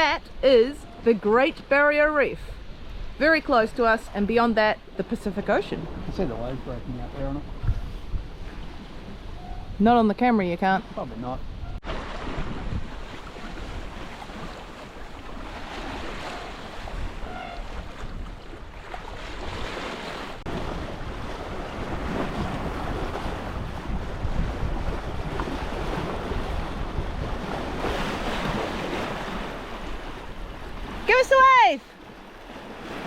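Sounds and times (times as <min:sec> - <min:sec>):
water rushing along boat hull: 0:00.0 - 0:33.0
wind buffeting microphone: 0:00.0 - 0:33.0.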